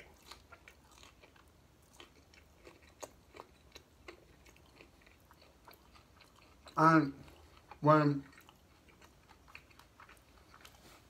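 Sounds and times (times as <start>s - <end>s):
chewing crunchy taco: 0.0s - 11.0s.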